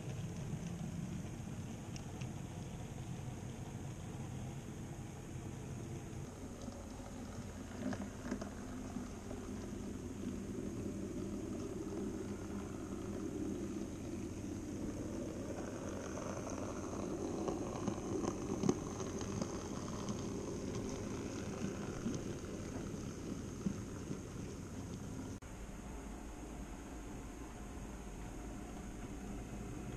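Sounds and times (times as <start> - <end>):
model train wheels rumbling: 0.0 - 25.4, 26.2 - 29.9
faint high motor whine: 0.0 - 29.9.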